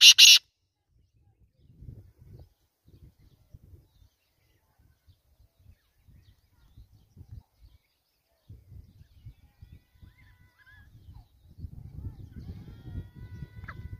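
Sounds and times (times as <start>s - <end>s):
wind rumbling on microphone: 0.8s - 13.9s.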